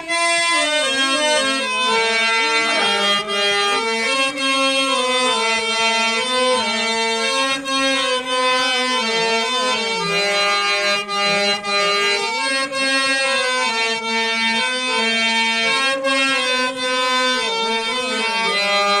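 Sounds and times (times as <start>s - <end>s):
harmonium melody: 0.0s - 19.0s.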